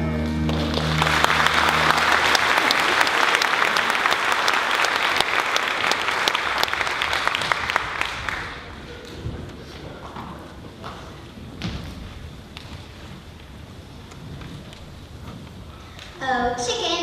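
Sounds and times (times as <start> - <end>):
audience clapping: 0.4 - 14.9.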